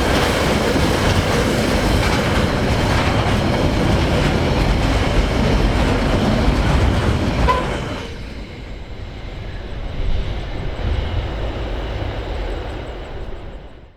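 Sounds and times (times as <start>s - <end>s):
freight train passing: 0.0s - 13.9s.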